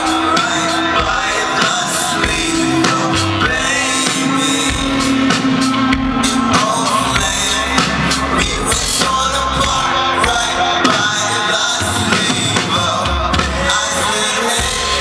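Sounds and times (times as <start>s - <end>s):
drums: 0.0s - 15.0s
guitar: 0.0s - 15.0s
keyboards: 0.0s - 15.0s
person singing: 0.0s - 15.0s.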